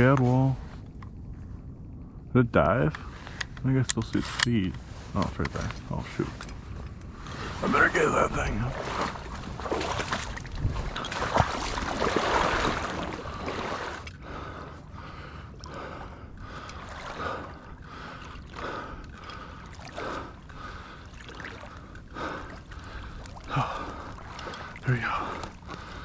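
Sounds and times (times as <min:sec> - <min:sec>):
water sloshing and splashing: 0:04.8 - 0:26.0.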